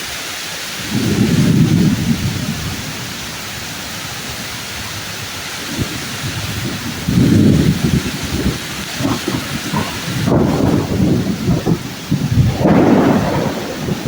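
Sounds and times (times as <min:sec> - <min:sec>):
heavy rain hissing: 0:00.0 - 0:14.0
thunder rumbling: 0:00.6 - 0:14.0.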